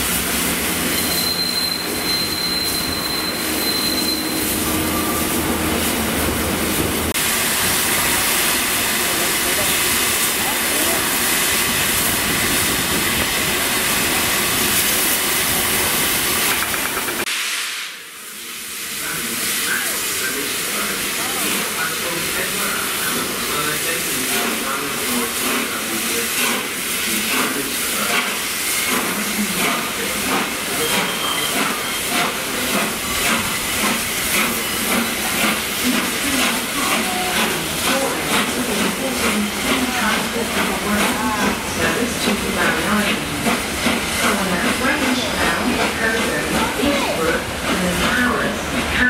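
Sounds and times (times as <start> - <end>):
steam locomotive hissing: 0.0 - 49.0.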